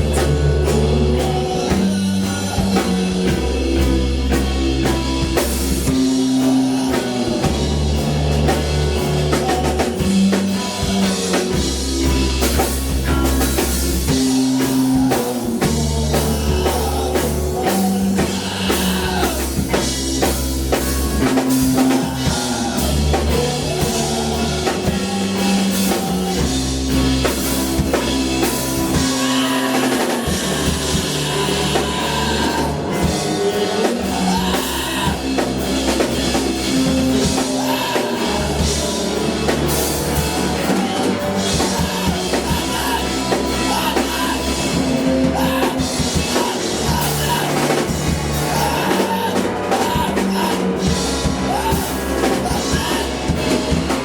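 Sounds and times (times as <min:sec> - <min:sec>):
drum kit: 0:00.0 - 0:54.0
sustained bass notes: 0:00.0 - 0:54.0.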